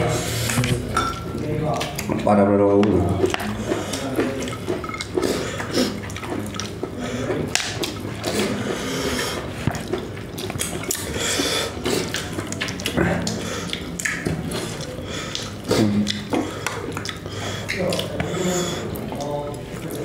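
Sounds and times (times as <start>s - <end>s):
chewing and lip smacks: 1.2s - 2.3s, 3.2s - 20.0s.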